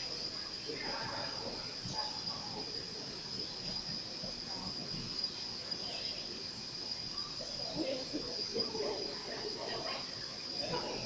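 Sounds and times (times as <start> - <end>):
faint indistinct voices: 0.0 - 11.0.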